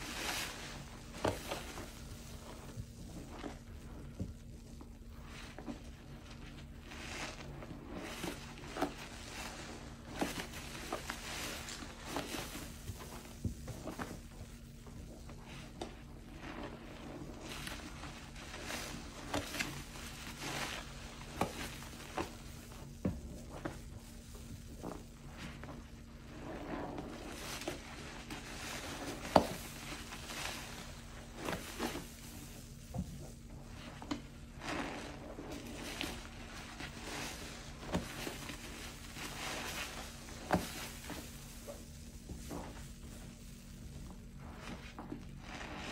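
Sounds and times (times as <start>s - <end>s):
sponge squelching in water: 0.0s - 45.9s.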